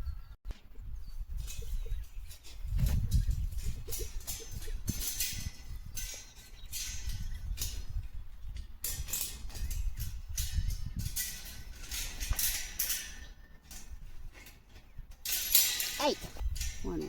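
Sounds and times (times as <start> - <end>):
wire fence rattling and clinking: 1.3 - 17.0.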